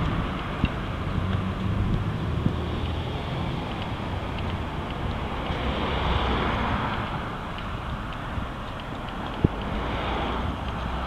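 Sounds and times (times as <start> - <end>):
car passing close: 0.0 - 11.0
road traffic: 0.0 - 11.0
wind buffeting microphone: 0.0 - 11.0.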